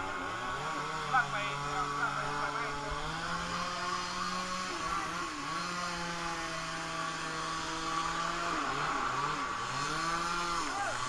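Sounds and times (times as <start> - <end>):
small engine running at high speed: 0.0 - 11.0.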